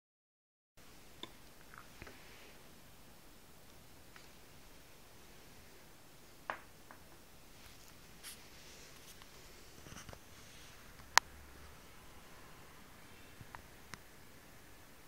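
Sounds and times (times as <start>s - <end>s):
low room hiss: 0.8s - 15.0s.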